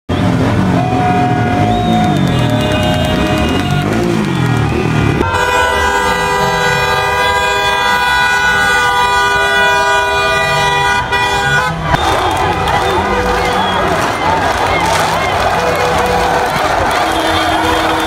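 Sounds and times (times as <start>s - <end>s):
car horns blaring: 0.1s - 18.0s.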